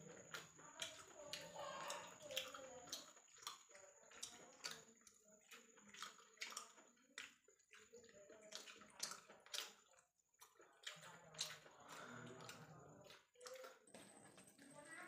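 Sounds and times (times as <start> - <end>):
wet chewing and hand eating: 0.0 - 14.1.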